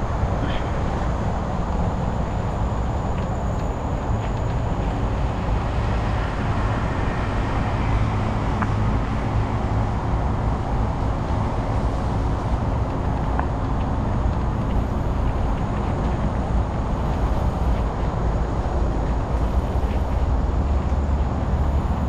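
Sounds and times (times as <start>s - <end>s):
wind rush on microphone: 0.0s - 22.0s.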